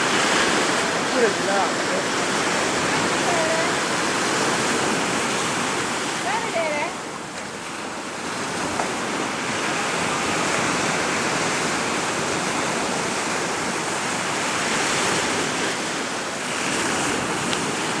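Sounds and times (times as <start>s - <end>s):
sea surf breaking on shore: 0.0s - 18.0s.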